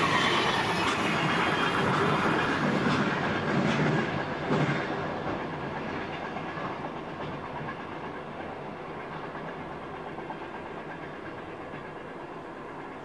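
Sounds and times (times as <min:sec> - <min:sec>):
freight train wagons rumbling: 0:00.0 - 0:13.0.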